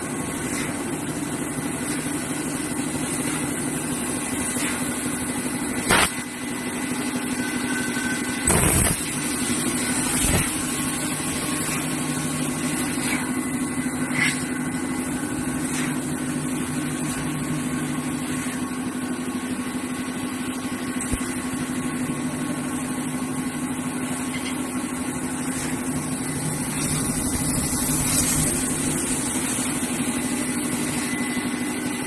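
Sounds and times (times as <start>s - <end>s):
laser cutting machine humming: 0.0s - 32.0s.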